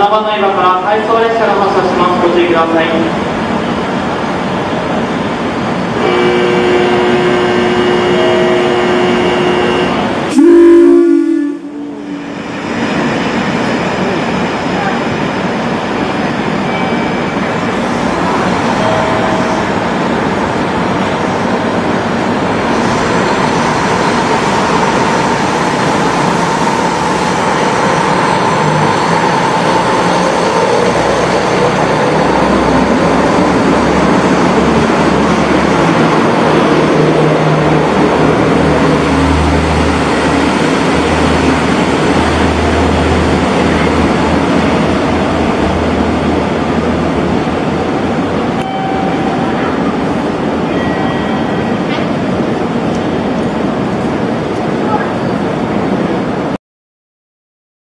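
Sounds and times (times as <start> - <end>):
diesel railcar engines rumbling: 0.0 - 56.6.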